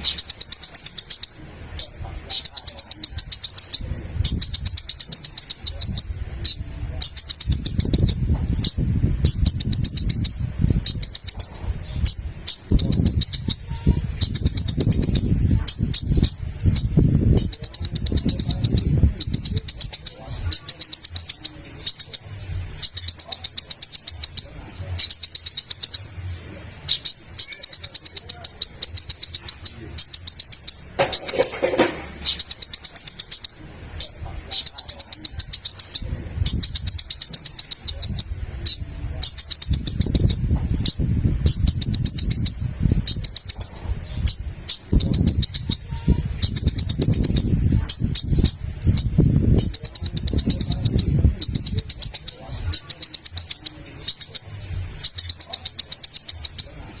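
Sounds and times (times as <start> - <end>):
bird chirping rapidly: 0.0 - 57.0.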